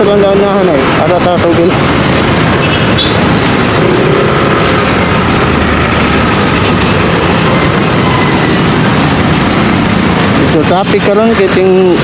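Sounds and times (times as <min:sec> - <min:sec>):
surrounding traffic: 0:00.0 - 0:12.0
scooter engine: 0:01.6 - 0:12.0.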